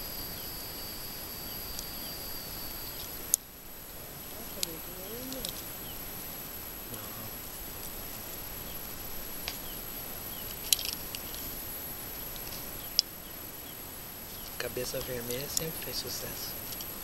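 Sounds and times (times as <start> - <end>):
faint high whine: 0.0 - 17.0
steady outdoor hiss: 0.0 - 17.0.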